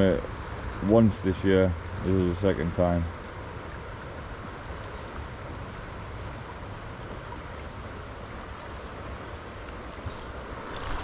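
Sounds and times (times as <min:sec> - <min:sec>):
river water rushing over riffle: 0:00.0 - 0:11.0.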